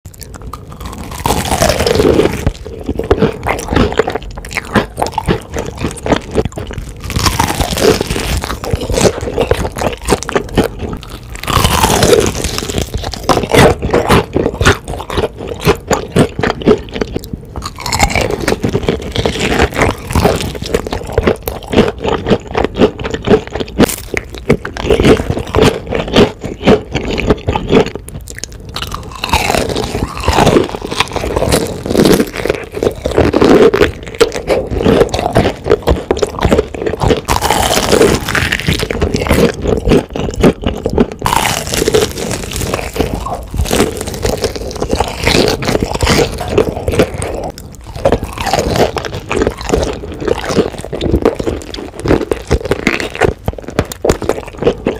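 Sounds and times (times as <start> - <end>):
crunching fried chicken: 0.0 - 54.9.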